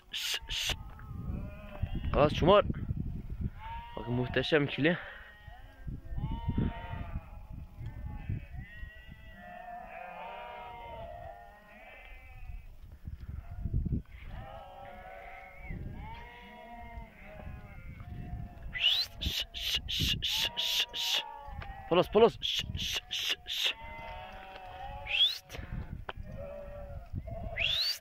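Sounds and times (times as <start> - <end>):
sheep bleating: 0.1 - 2.2, 3.6 - 12.6, 13.4 - 25.6, 26.2 - 28.0.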